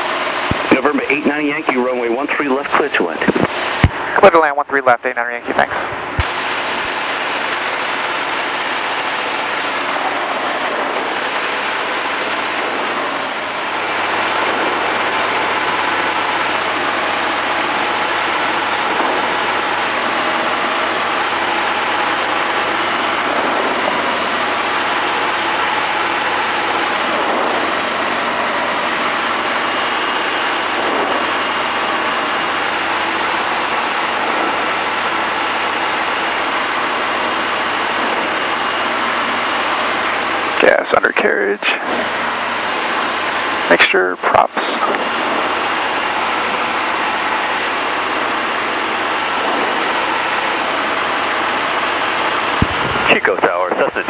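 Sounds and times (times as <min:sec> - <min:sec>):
aircraft engine and propeller: 0:00.0 - 0:54.0
air rushing over cabin: 0:05.6 - 0:54.0.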